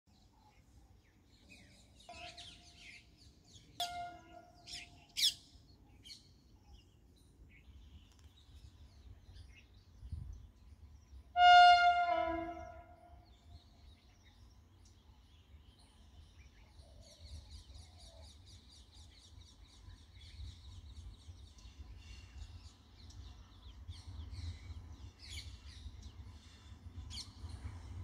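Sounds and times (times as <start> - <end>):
birds chirping: 0.2 - 27.7.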